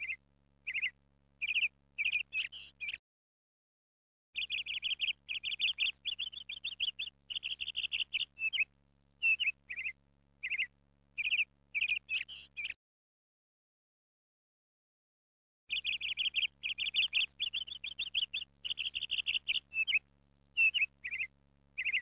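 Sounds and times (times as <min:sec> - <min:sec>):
small bird chirping: 0:00.0 - 0:03.0, 0:04.4 - 0:12.8, 0:15.7 - 0:22.0.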